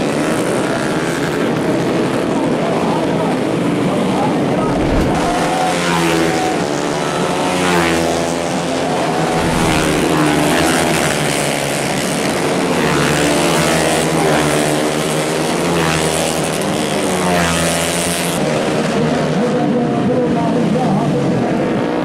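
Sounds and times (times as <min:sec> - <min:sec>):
motorcycles racing at full throttle: 0:00.0 - 0:22.0.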